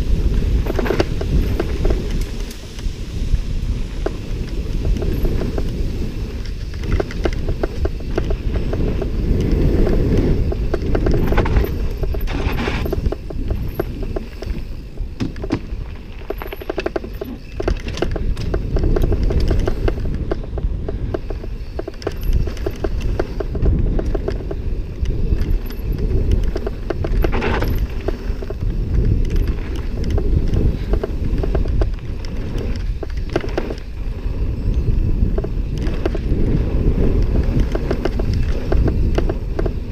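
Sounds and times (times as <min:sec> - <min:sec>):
bike rattling over bumps: 0:00.0 - 0:39.9
bike tyres rolling on dirt: 0:00.0 - 0:39.9
wind rumble on microphone: 0:00.0 - 0:39.9.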